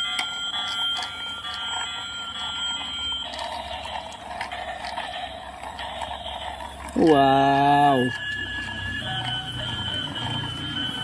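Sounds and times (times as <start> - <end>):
high electronic tone: 0.0 - 11.0
toy motor whirring and rattling: 0.0 - 11.0.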